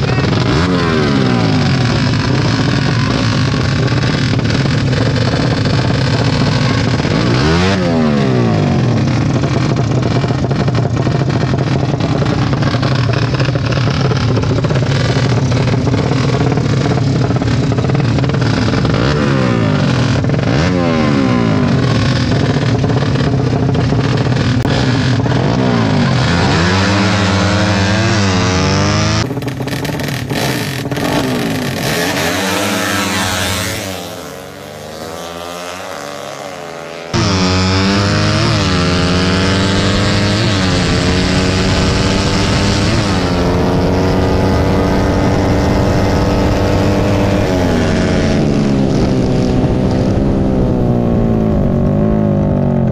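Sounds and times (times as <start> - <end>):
motorcycle engines revving: 0.0 - 52.9.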